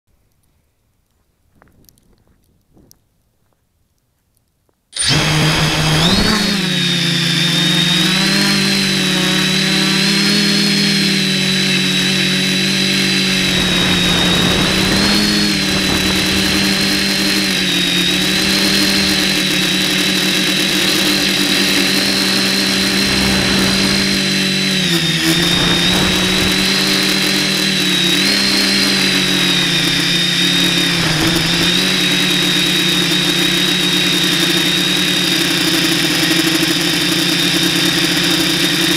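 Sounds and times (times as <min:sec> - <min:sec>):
quadcopter motors buzzing: 0:05.0 - 0:38.9.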